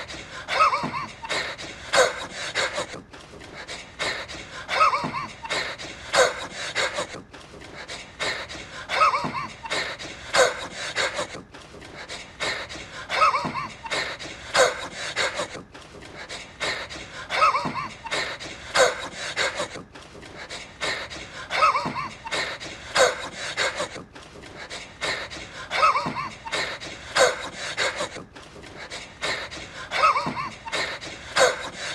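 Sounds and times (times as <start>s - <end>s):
man wheezing and panting: 0.0s - 31.9s.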